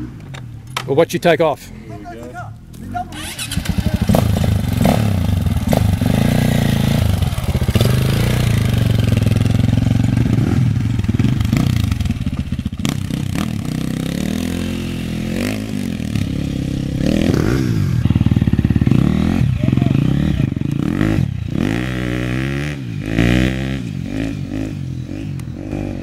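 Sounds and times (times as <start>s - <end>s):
dirt bike engine revving: 2.8s - 26.0s.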